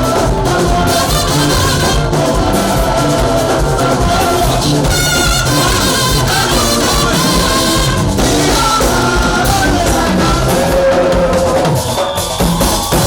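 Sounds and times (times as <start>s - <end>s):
church praise music with singing: 0.0s - 13.0s.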